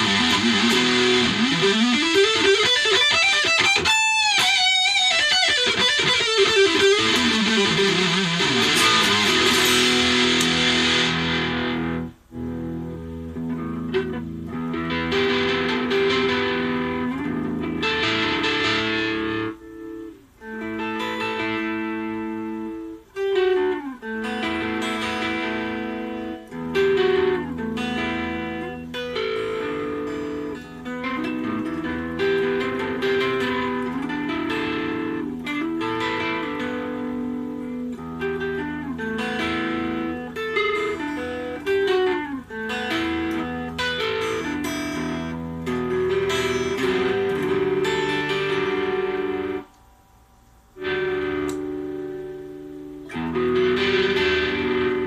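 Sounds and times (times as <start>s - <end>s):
electric guitar playing: 0.0s - 55.0s.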